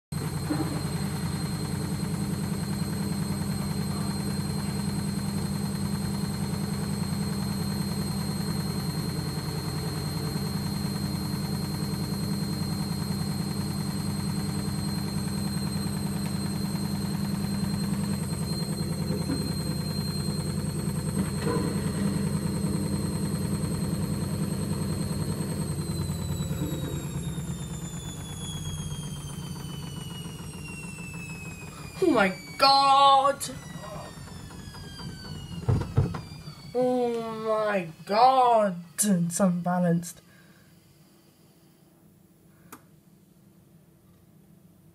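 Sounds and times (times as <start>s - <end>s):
washing machine knocking vibration: 0.2s - 38.7s
motor whine: 0.2s - 41.9s.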